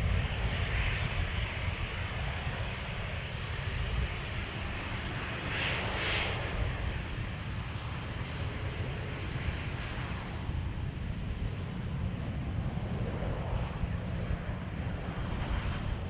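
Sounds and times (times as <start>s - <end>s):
jet airliner engines rumbling: 0.0s - 16.0s.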